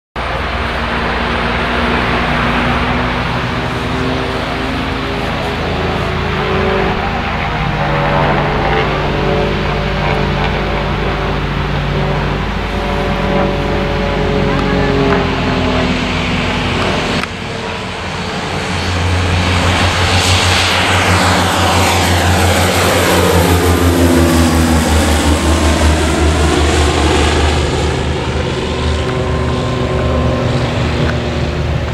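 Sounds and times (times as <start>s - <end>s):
propeller drone: 0.2s - 31.9s
turbine whine: 0.2s - 31.9s.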